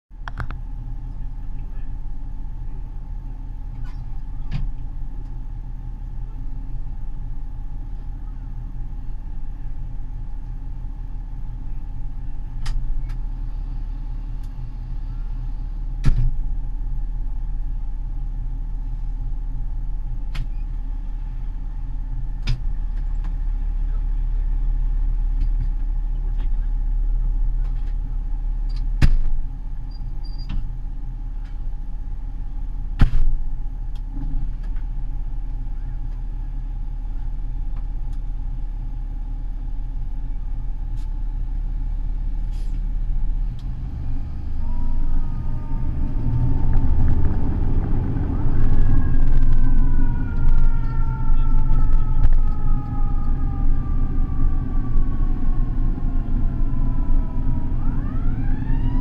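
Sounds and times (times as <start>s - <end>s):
diesel engine idling: 0.2s - 59.0s
steady hum: 0.2s - 59.0s.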